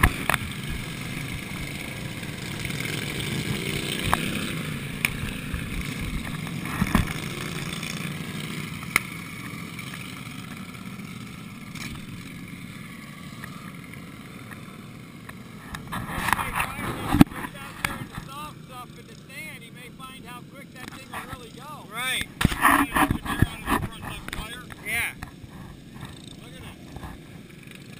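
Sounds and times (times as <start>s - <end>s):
lawn tractor engines revving: 0.0s - 27.9s.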